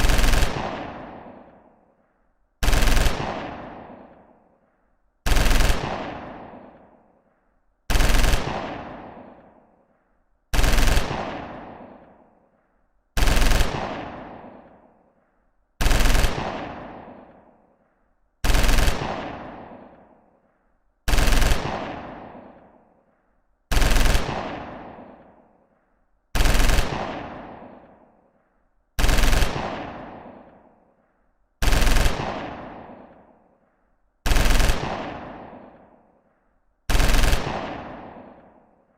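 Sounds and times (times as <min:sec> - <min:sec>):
gunfire echo: 0:00.0 - 0:38.9.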